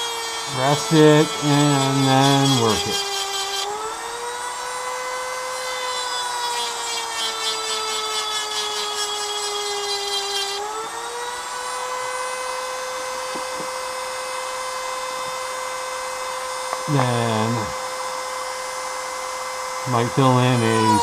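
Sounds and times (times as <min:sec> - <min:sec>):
bit grinding steel: 0:00.0 - 0:04.0, 0:05.1 - 0:18.5, 0:19.6 - 0:21.0
rotary tool whining: 0:00.0 - 0:21.0.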